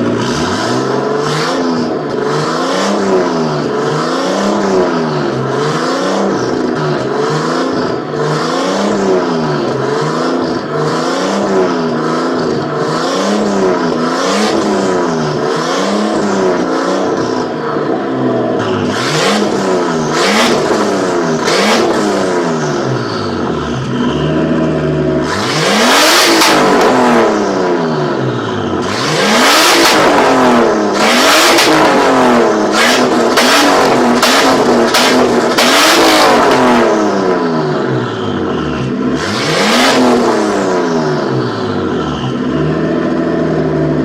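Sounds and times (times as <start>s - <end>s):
car engine revving in quick blips: 0.0s - 44.0s.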